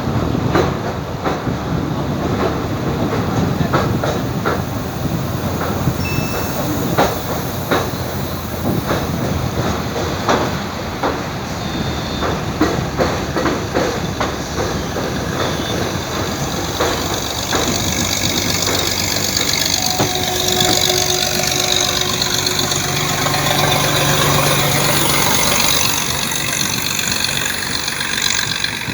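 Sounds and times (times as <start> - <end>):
train rushing rumble: 0.0 - 28.9
train wheels clacking over rail joints: 0.0 - 28.9.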